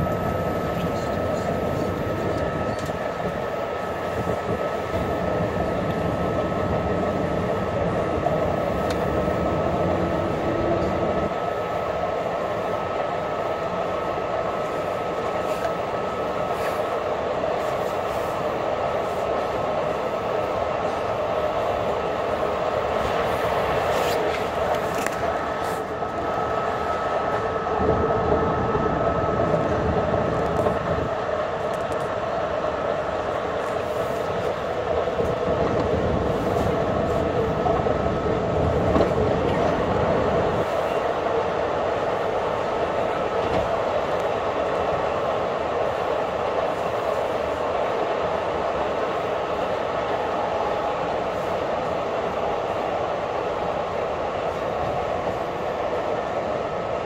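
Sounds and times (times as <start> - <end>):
thin steady whine: 0.0 - 57.0.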